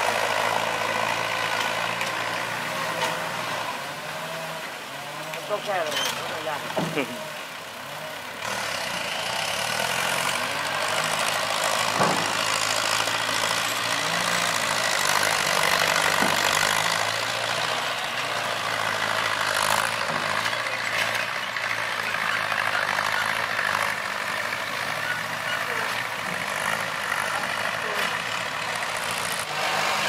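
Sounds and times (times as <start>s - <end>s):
tractor diesel engines running: 0.0s - 30.0s.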